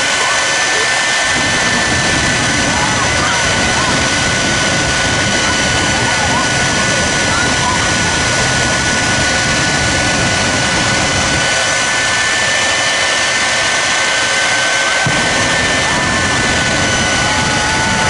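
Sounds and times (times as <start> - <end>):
high turbine whine: 0.0 - 18.0
jet engines roaring: 0.0 - 18.0.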